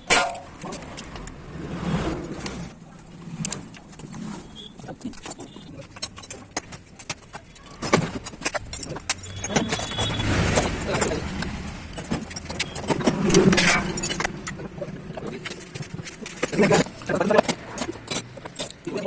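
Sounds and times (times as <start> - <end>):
metal tools clinking: 0.0 - 1.3, 4.6 - 19.0.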